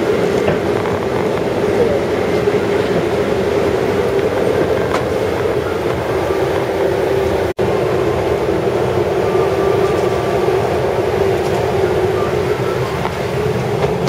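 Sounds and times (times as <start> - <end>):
airliner cabin rumble and air rush: 0.0 - 14.0.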